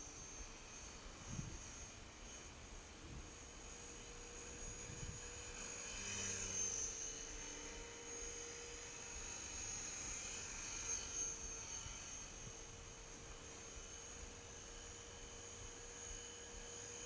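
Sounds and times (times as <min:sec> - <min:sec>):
model helicopter whining: 0:00.0 - 0:17.0.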